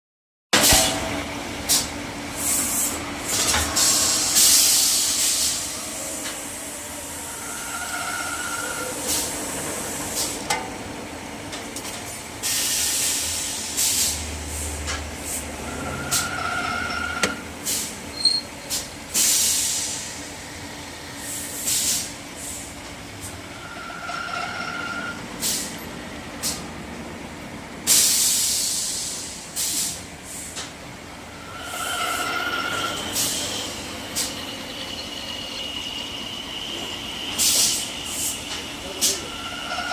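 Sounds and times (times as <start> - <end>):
workshop machinery running: 0.6 - 39.9.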